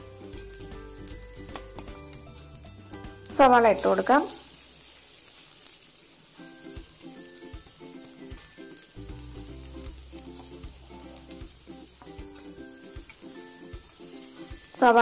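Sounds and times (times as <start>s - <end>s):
soft background music: 0.0s - 4.8s, 6.2s - 15.0s
onions sizzling in hot oil: 0.0s - 15.0s.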